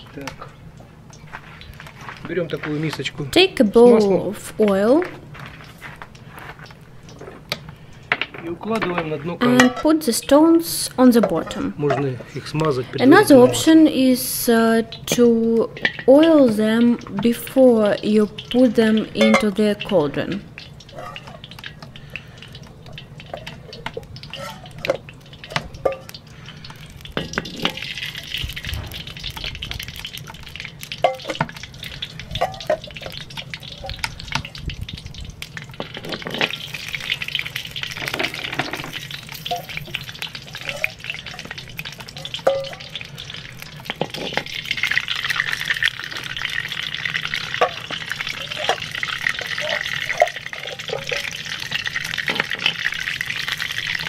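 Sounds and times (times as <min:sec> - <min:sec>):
hot oil sizzling: 0:00.0 - 0:54.0.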